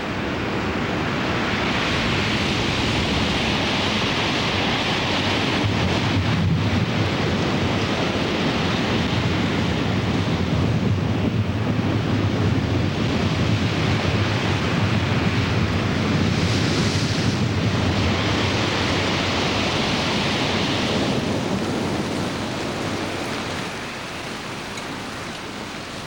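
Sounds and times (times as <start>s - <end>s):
strong storm wind blowing: 0.0s - 26.0s.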